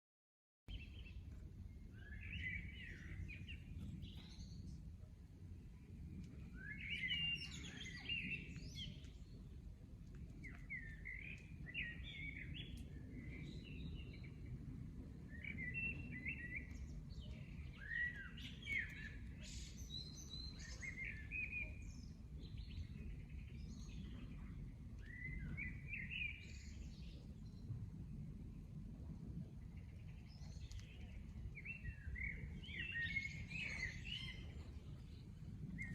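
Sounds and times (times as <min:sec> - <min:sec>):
low background rumble: 0:00.7 - 0:35.9
songbird chirping: 0:00.7 - 0:35.9.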